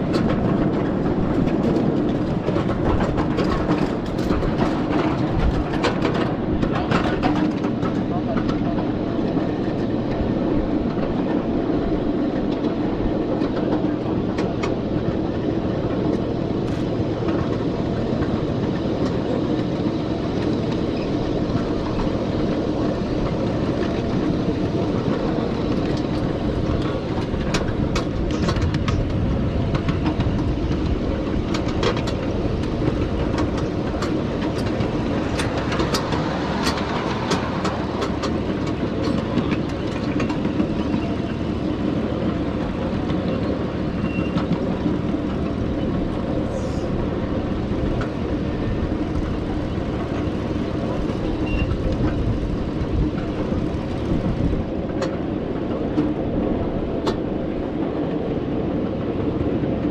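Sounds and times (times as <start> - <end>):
miniature train rumbling: 0.0 - 59.9
wheels clicking on rails: 0.0 - 59.9.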